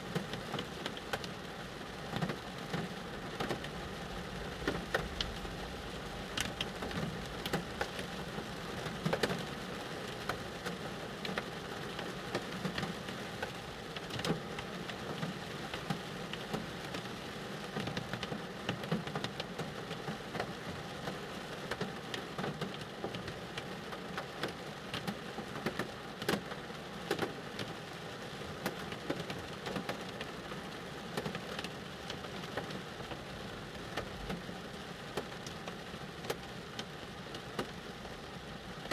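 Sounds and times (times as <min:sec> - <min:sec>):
rain drops on car roof and glass: 0:00.0 - 0:38.9.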